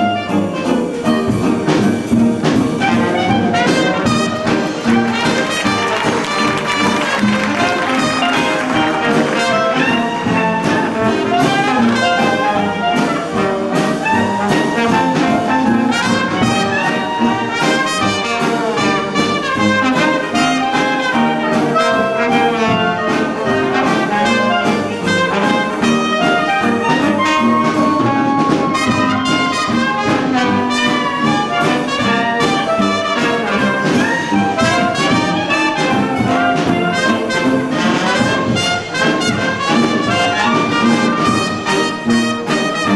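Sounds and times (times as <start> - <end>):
clarinet: 0.0 - 1.8, 2.8 - 42.9
jazz band playing: 0.0 - 42.9
trombone: 0.0 - 42.9
trumpet: 0.0 - 42.9.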